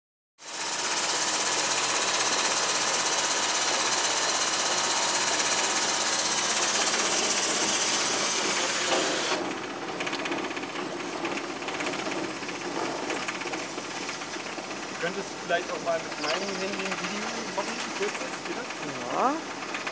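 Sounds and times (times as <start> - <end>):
machine rattling: 0.5 - 19.9.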